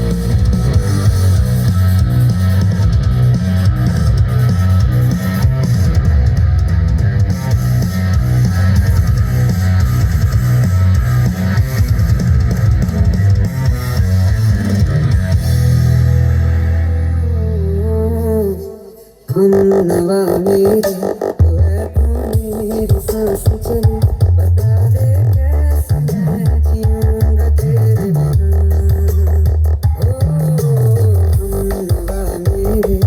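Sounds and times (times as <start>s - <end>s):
loud rock music: 0.0s - 18.0s, 19.4s - 33.0s.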